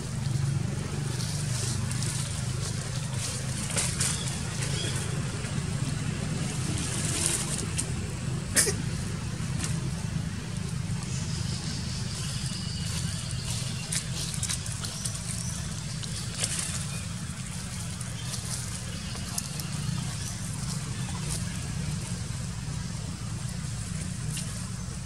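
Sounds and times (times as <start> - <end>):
low motor drone: 0.0 - 25.0.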